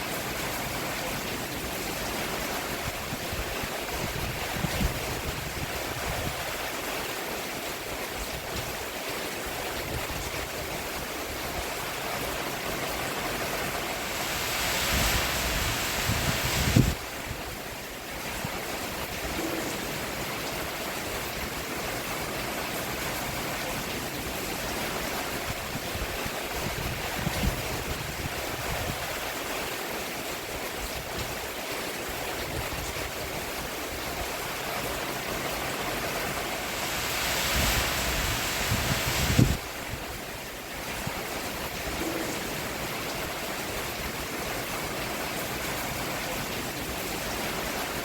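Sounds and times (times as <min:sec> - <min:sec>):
rain falling on a roof: 0:00.0 - 0:48.0.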